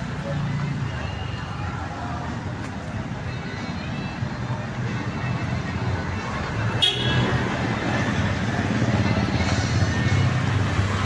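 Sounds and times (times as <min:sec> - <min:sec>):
motorbike and scooter engines: 0:00.0 - 0:11.0
passing vehicles: 0:00.0 - 0:11.0.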